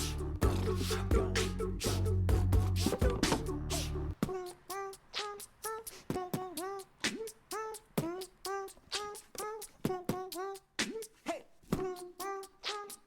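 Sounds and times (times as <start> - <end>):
rhythmic vocal syllables music: 0.0 - 13.0.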